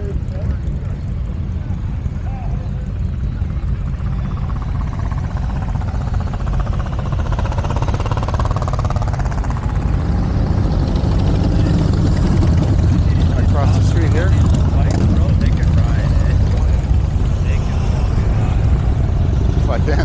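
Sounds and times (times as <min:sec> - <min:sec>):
motorcycle engines running: 0:00.0 - 0:20.0
motorcycle passing by: 0:01.6 - 0:20.0.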